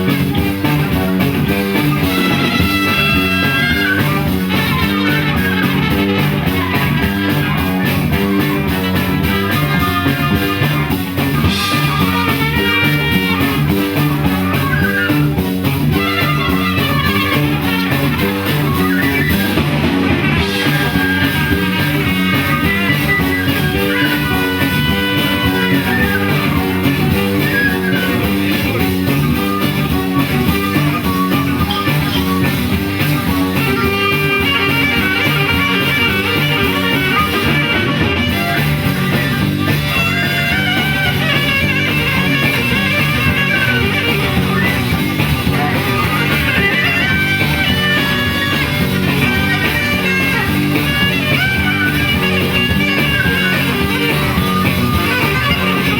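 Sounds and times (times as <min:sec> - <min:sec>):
guitar: 0:00.0 - 0:55.9
live band playing: 0:00.0 - 0:55.9.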